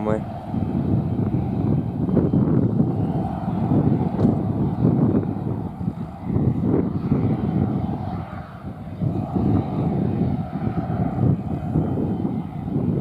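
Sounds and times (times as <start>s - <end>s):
jet engine rumble: 0.0s - 13.0s
wind buffeting microphone: 0.0s - 13.0s.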